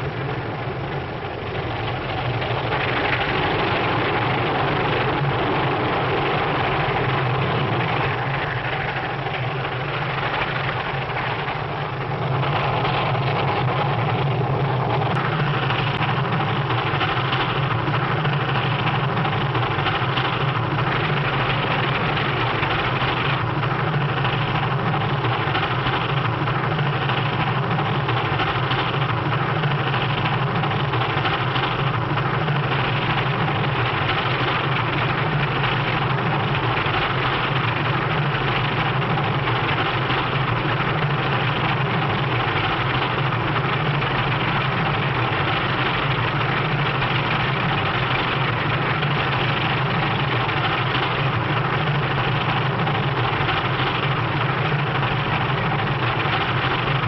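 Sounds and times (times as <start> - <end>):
steam train rumbling: 0.0 - 57.0.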